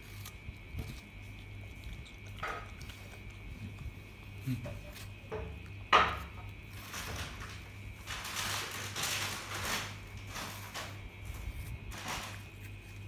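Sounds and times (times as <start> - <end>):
dog chewing crunches: 0.0 - 13.0
dog crunching apple: 0.0 - 13.0.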